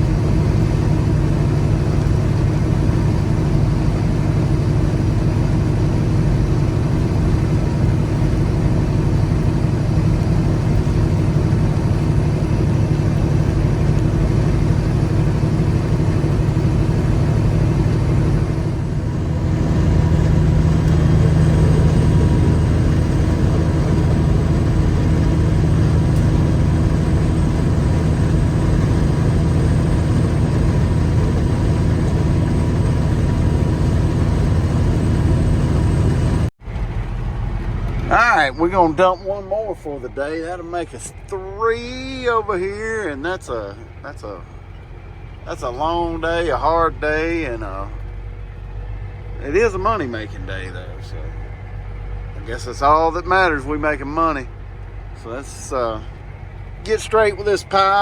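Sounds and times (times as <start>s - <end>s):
diesel truck engine running: 0.0s - 58.0s
road noise: 0.0s - 58.0s.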